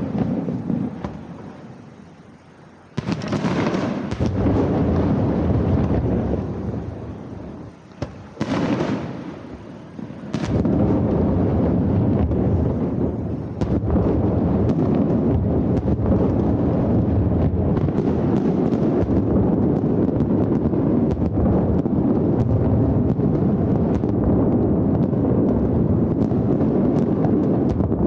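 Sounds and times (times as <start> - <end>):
sharp firework cracks: 0.0 - 1.8, 2.9 - 28.0
fireworks booming rumble: 0.0 - 28.0.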